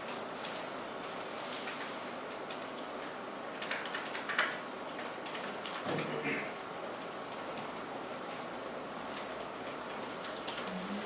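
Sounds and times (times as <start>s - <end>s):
computer keys and mice clicking: 0.0s - 6.2s, 6.9s - 7.9s, 8.6s - 11.0s.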